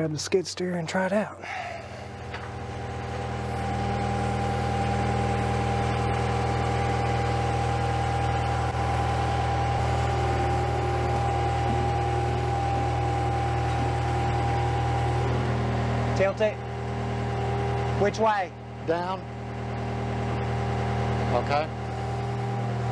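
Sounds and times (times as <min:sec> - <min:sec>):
skid steer engine running: 0:00.0 - 0:22.9
steady whine: 0:00.0 - 0:22.9.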